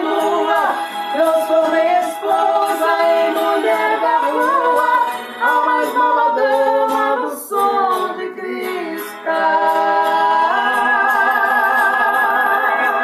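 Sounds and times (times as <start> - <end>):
instrumental backing: 0.0 - 13.0
man and woman singing in harmony: 0.0 - 13.0.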